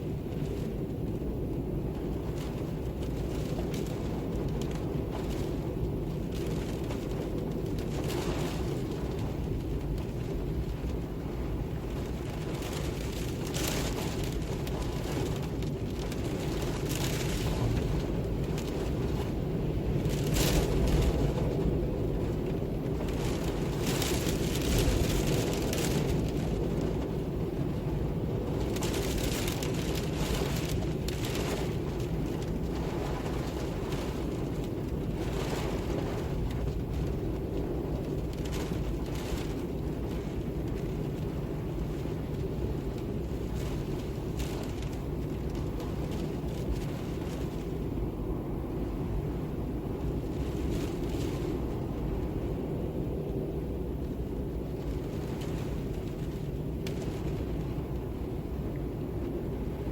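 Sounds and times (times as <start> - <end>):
wind gusts: 0.0 - 59.9.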